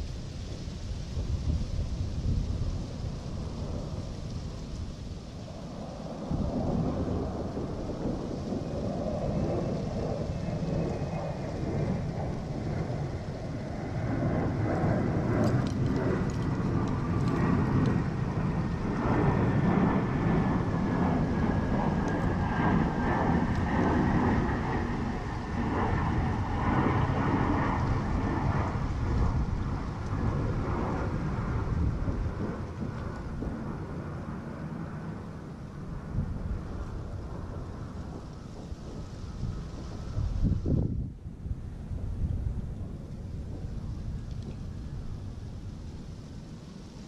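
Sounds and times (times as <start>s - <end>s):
aircraft rumble passing: 0.0s - 47.0s.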